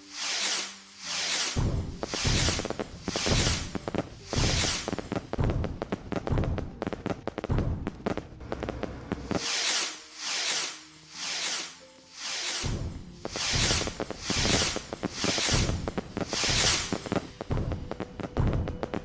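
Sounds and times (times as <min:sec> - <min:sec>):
firework hissing whooshes: 0:00.0 - 0:06.3, 0:09.2 - 0:18.6
fireworks crackling and banging: 0:00.0 - 0:19.0.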